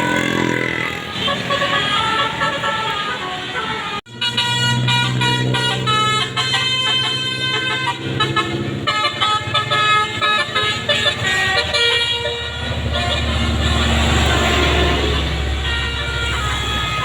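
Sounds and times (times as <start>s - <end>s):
bus engine passing: 0.0s - 17.0s
multi-tone bus air horn tune: 0.0s - 17.0s.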